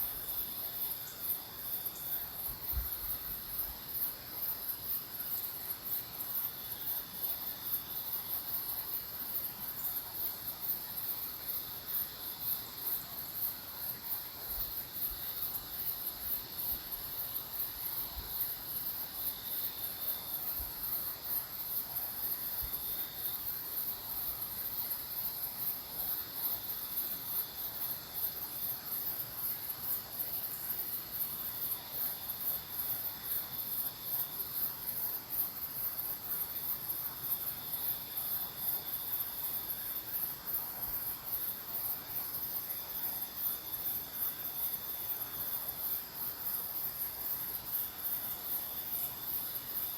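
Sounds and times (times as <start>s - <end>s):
night insects trilling: 0.0s - 49.9s.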